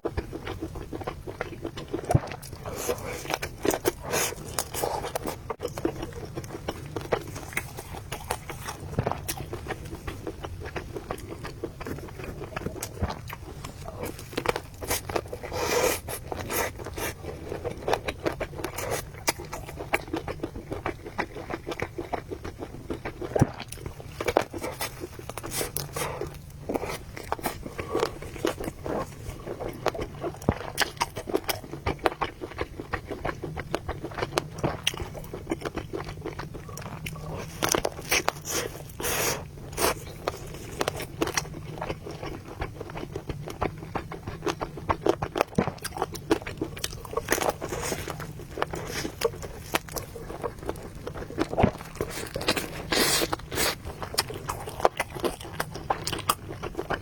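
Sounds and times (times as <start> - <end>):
person chewing and biting: 0.0 - 57.0.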